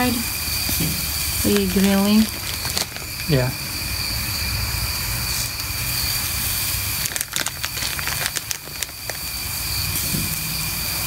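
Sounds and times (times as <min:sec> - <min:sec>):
fat crackling and popping: 0:00.0 - 0:03.9, 0:05.5 - 0:10.5
food sizzling on a charcoal grill: 0:00.0 - 0:11.0.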